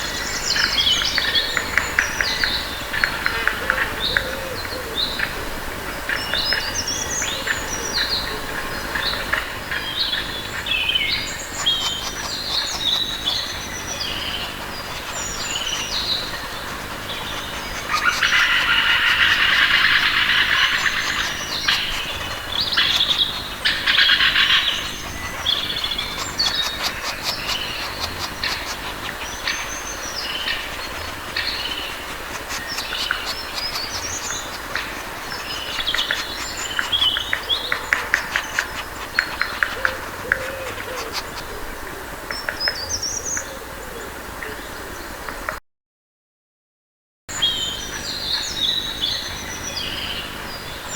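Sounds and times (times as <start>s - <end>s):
dense bird chattering: 0.0s - 44.1s
birds chirping and calling: 0.0s - 45.2s, 47.3s - 50.9s.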